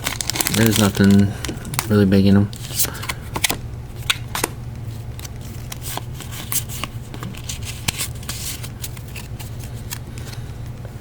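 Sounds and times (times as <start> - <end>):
trading cards flicking and rustling: 0.0 - 10.6
steady low hum: 0.0 - 11.0.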